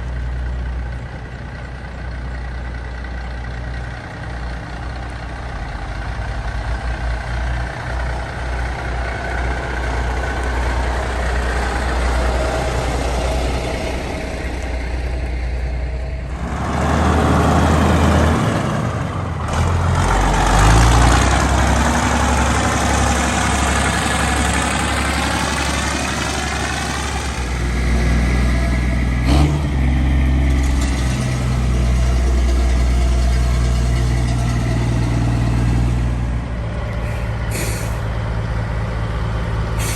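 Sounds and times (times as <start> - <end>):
diesel truck engines idling: 0.0 - 39.9
truck driving past: 0.0 - 39.9.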